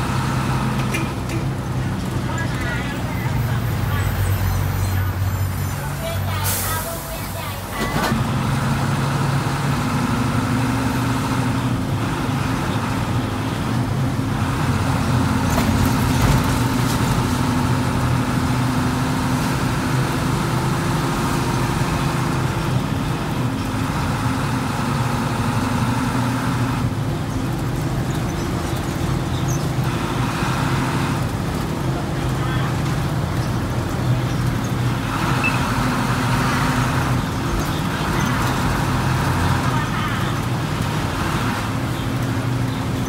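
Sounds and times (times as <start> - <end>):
bus diesel engine drone: 0.0 - 43.0
road and traffic noise: 0.0 - 43.0.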